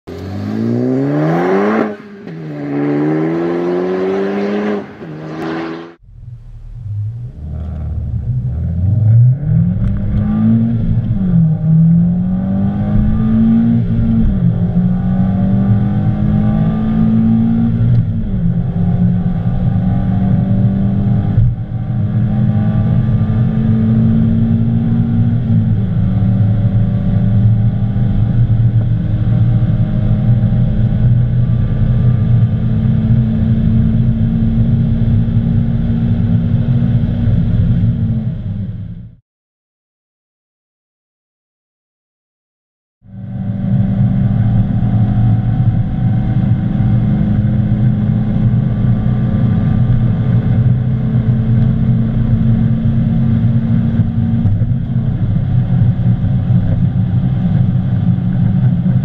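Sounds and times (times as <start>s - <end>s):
car engine accelerating hard: 0.1s - 39.2s, 43.1s - 59.0s
low cabin rumble: 6.0s - 39.2s, 44.0s - 59.0s.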